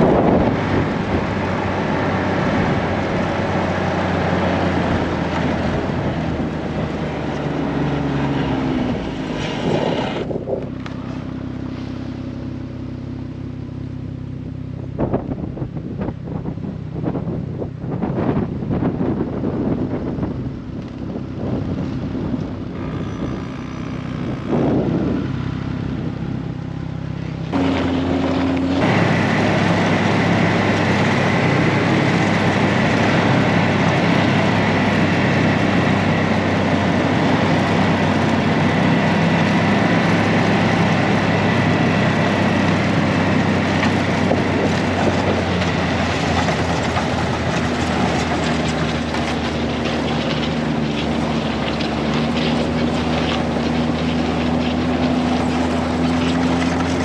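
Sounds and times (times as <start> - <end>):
snowmobile engine running: 0.0 - 12.4, 20.9 - 57.0.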